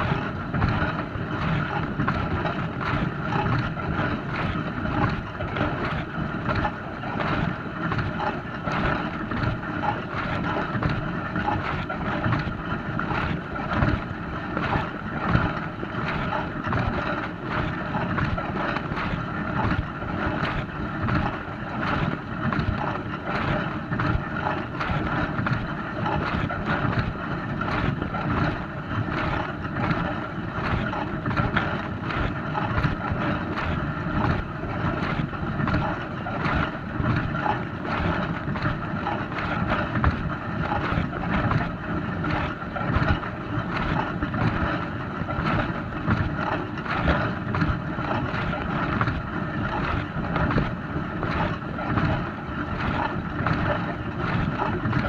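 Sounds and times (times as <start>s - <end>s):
dishwasher water churning: 0.0s - 55.0s.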